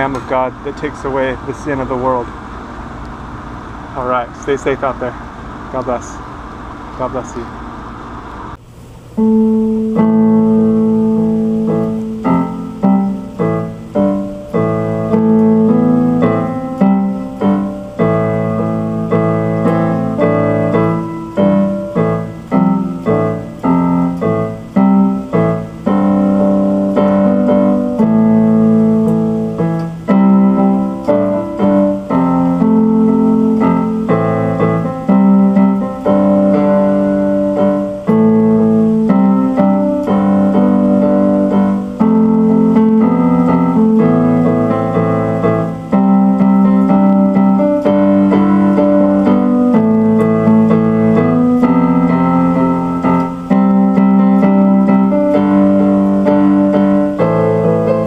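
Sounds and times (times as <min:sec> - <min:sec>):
piano keyboard piece: 0:00.0 - 0:07.6, 0:09.1 - 0:58.0.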